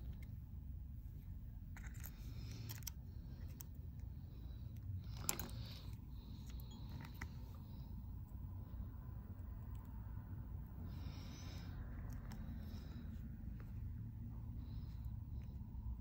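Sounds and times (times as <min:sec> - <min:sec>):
low steady background hum: 0:00.0 - 0:16.0.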